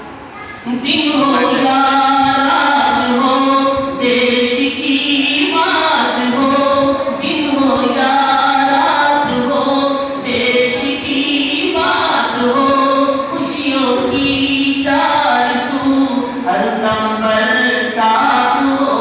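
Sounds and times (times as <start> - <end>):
boys singing in unison: 0.6 - 19.0.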